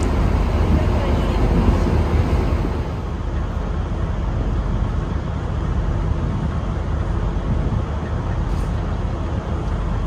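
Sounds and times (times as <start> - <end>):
moving vehicle rumble: 0.0 - 10.0.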